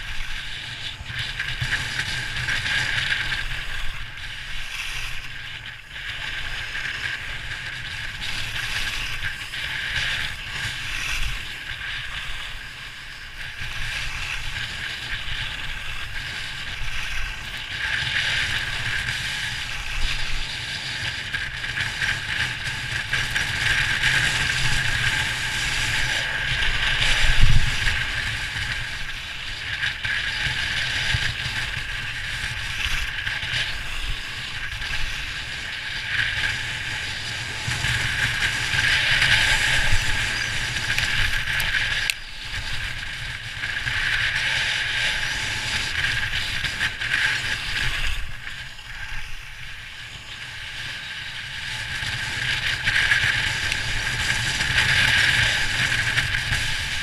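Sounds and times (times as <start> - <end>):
wind rumble on microphone: 0.0 - 57.0
skis scraping on packed snow: 4.8 - 57.0.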